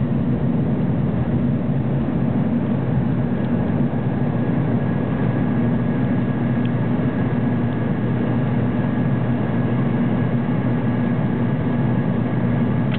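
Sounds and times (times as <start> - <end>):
aircraft cabin engine noise: 0.0 - 12.9.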